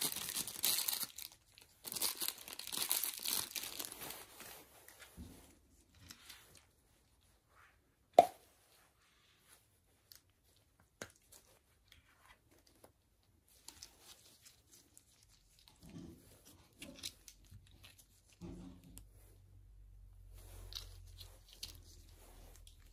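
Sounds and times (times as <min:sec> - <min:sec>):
gloves rubbing and rustling: 0:00.0 - 0:22.9.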